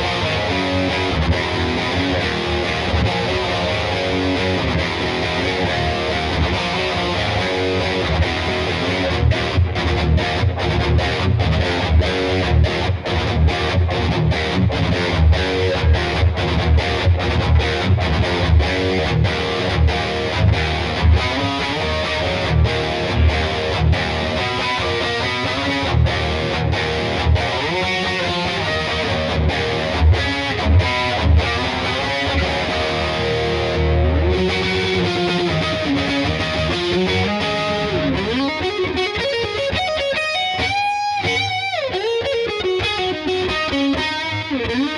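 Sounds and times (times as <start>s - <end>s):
distorted electric guitar riff: 0.0s - 44.9s.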